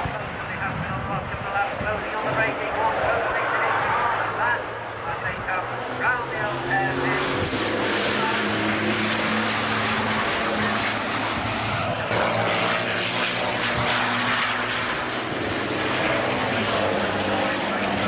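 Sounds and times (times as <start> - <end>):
diesel truck engines passing: 1.6 - 18.0.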